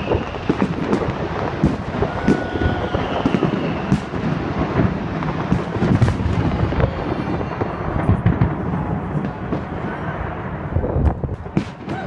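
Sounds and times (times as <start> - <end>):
sharp firework cracks: 0.0 - 12.0.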